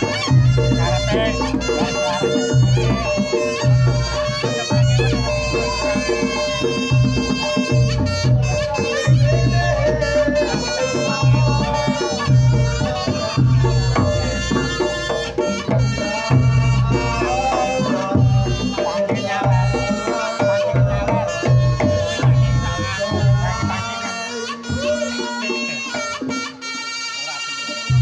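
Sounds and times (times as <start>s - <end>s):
reedy shawm melody: 0.0s - 28.0s.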